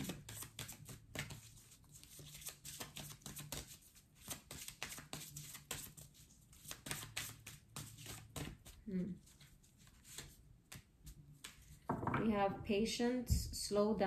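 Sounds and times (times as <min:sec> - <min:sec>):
cards being shuffled: 0:00.0 - 0:11.9.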